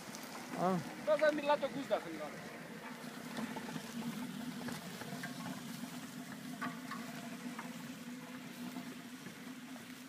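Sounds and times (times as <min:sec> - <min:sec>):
crackles and ticks: 0:00.0 - 0:10.0.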